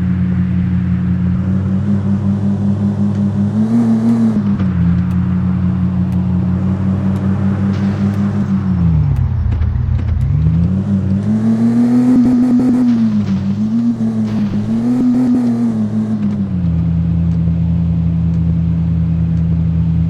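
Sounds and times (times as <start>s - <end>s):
car engine running while driving: 0.0s - 20.0s.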